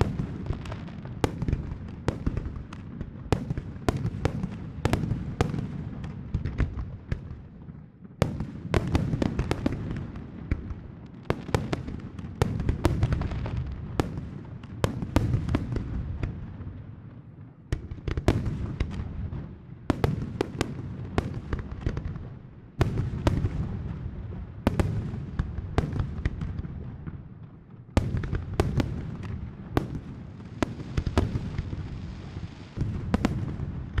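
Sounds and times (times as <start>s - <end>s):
fireworks bangs: 0.0s - 7.4s, 8.2s - 16.8s, 17.7s - 34.0s
low rumble of distant explosions: 0.0s - 34.0s.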